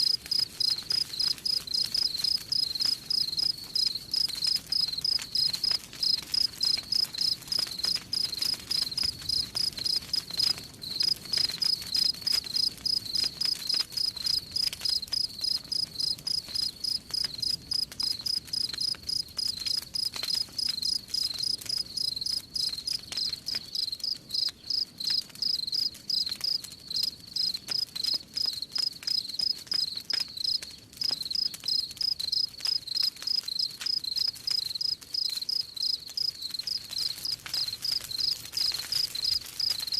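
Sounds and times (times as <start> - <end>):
crickets chirping: 0.0 - 27.8, 31.3 - 39.9
campfire crackling: 0.0 - 39.9.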